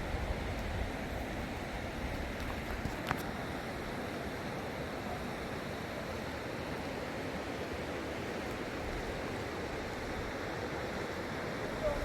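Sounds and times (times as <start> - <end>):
floodwater rushing in river: 0.0 - 12.0.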